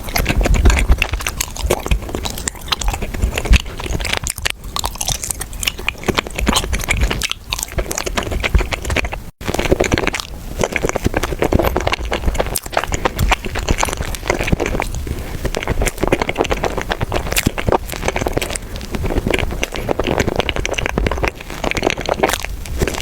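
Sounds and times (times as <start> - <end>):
food crunching while chewed: 0.0 - 23.0.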